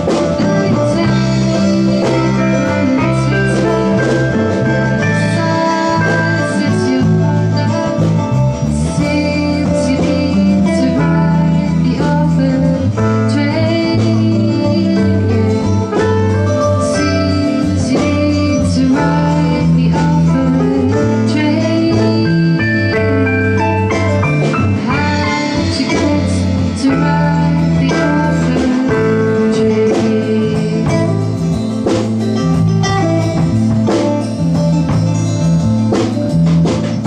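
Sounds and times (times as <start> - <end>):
strummed guitar: 0.0 - 37.0
sustained bass notes: 0.0 - 37.0.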